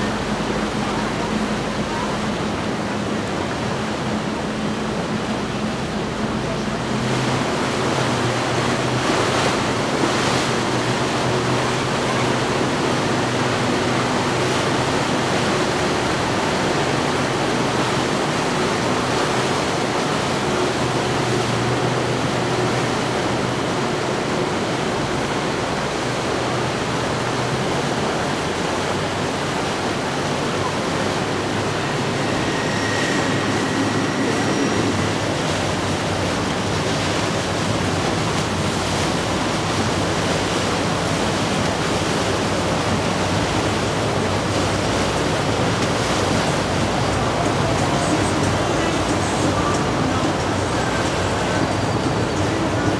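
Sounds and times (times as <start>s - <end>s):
boat engines droning: 0.0s - 52.9s
rushing water from boat wake: 0.0s - 52.9s.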